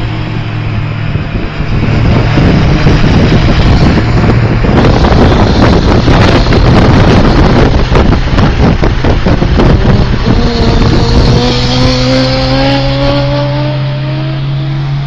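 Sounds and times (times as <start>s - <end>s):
road and traffic engine noise: 0.0s - 15.0s
wind buffeting on microphone: 0.0s - 15.0s.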